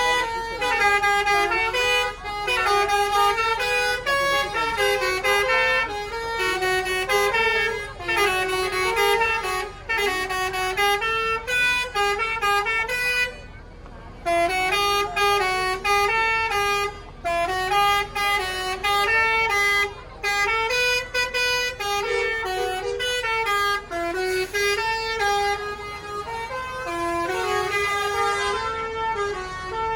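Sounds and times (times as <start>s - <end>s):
musical air horn melody: 0.0s - 13.4s, 14.2s - 29.9s.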